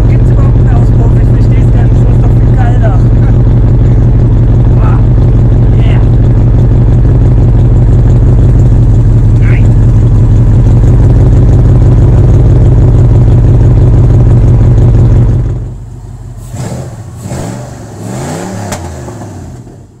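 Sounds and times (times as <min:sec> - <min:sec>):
loud unmuffled engine idling: 0:00.0 - 0:18.3
quieter engine revving: 0:00.0 - 0:20.0.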